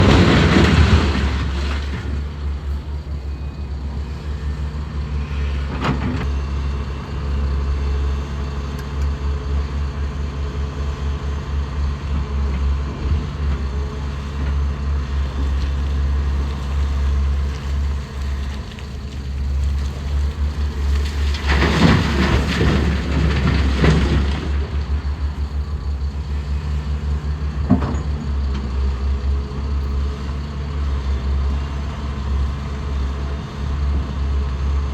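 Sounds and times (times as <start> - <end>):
heavy diesel engines droning: 0.0 - 34.9.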